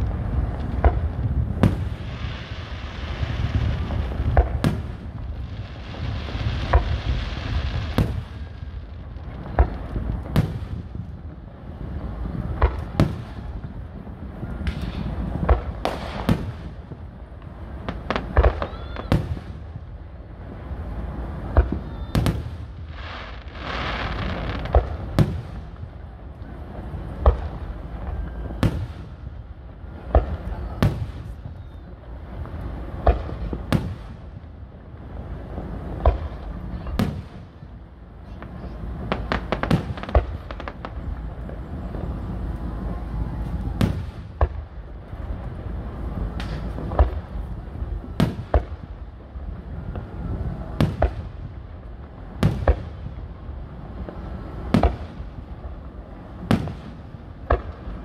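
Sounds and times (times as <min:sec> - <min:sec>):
fireworks bursting with bangs: 0:00.0 - 0:58.0
fireworks crackling hiss: 0:00.0 - 0:58.0.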